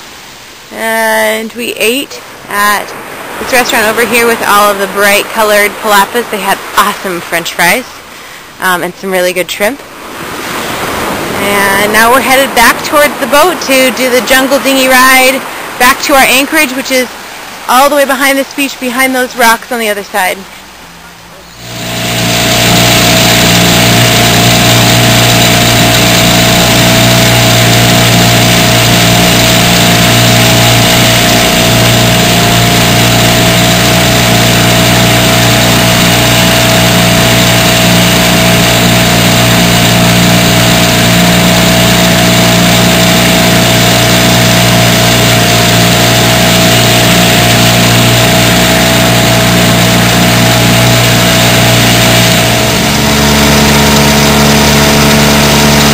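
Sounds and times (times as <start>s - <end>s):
outboard motor running: 0.0s - 19.9s, 20.9s - 55.9s.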